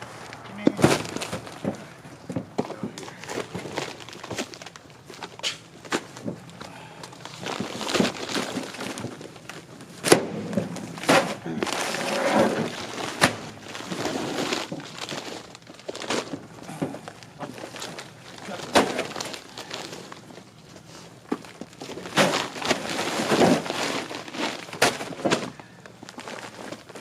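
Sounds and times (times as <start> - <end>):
bags thudding down: 0.0 - 20.3, 21.3 - 27.0
bags rustling: 0.0 - 27.0.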